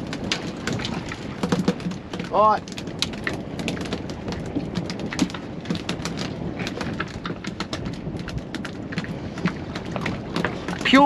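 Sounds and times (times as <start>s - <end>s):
water slapping against boat hull: 0.0s - 11.0s.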